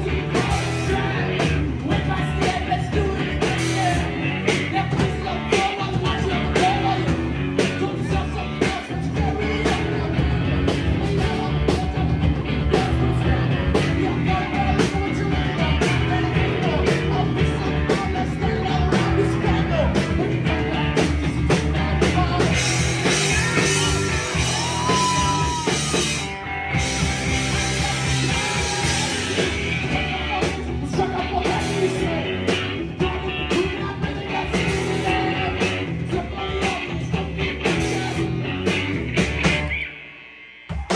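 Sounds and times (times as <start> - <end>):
man singing into a microphone: 0.0 - 26.0, 27.4 - 38.4
drums: 0.0 - 40.9
electric guitars: 0.0 - 40.9.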